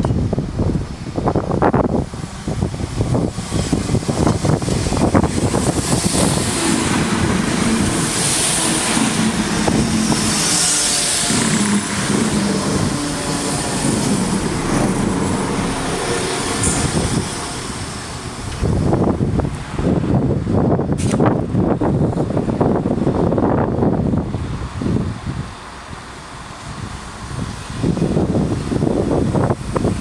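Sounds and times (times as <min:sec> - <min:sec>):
large vehicle rumbling: 0:00.0 - 0:30.0.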